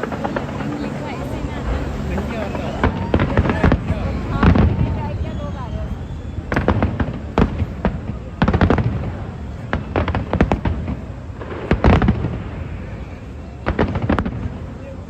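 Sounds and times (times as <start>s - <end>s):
low rumble: 0.0s - 13.5s
fireworks bangs: 0.0s - 15.0s.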